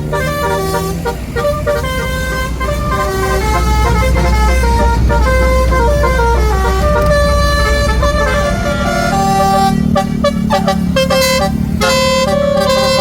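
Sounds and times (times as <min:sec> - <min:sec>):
bus engine rumble: 0:00.0 - 0:13.0
bus horn playing a melody: 0:00.0 - 0:13.0.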